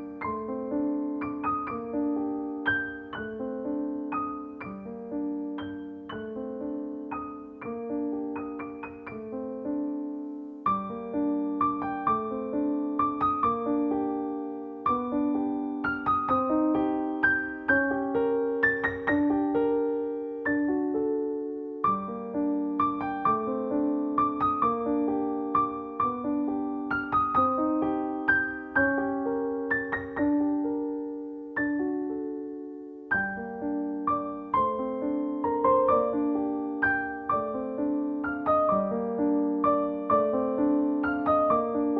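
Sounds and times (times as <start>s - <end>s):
soft solo piano music: 0.0s - 41.9s.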